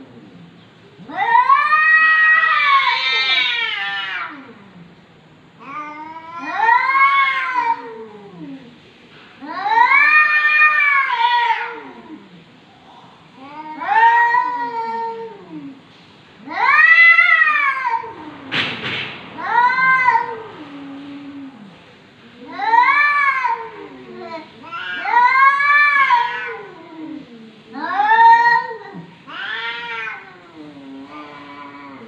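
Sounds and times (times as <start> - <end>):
cats yowling: 1.0 - 4.8, 5.6 - 8.8, 9.4 - 12.4, 13.4 - 15.8, 16.4 - 18.5, 19.4 - 21.8, 22.4 - 32.0.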